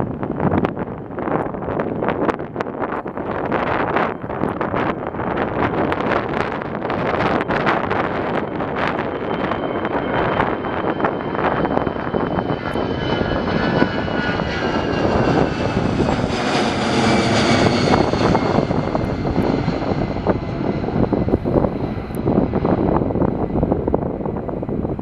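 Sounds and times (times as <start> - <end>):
airplane engines passing overhead: 0.0 - 25.0
wind buffeting microphone: 0.0 - 25.0.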